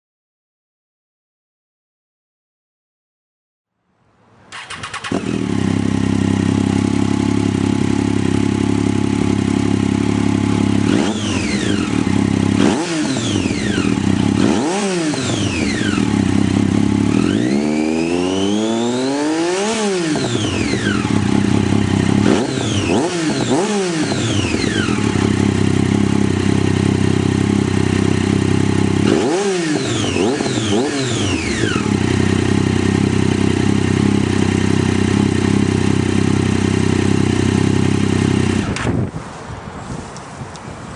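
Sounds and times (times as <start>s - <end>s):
motorcycle engine revving: 4.5s - 39.1s.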